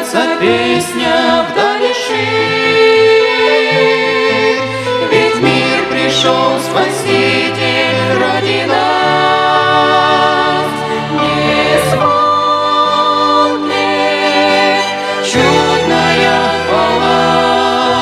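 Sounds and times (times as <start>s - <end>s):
female voices singing a hymn: 0.0s - 18.0s
violin: 0.0s - 18.0s.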